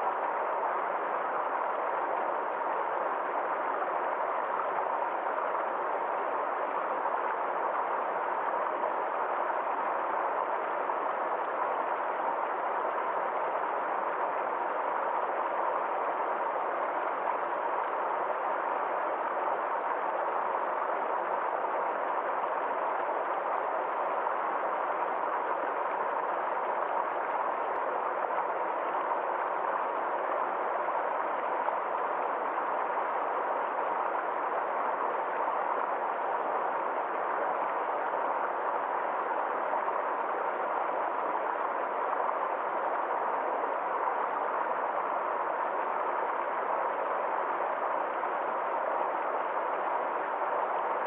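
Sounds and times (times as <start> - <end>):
stream flowing: 0.0 - 51.0.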